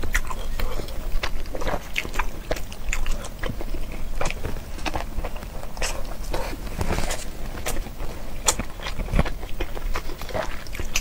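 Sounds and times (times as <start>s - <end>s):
crunchy chewing: 0.0s - 11.0s.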